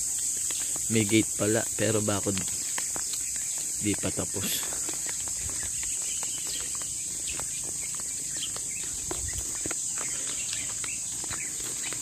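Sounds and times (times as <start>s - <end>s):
footsteps on road: 0.0s - 12.0s
insects chorus: 0.0s - 12.0s.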